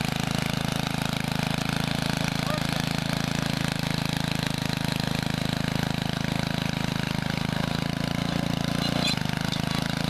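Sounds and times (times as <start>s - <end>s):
rototiller engine running: 0.0s - 10.0s
tines churning soil: 0.0s - 10.0s.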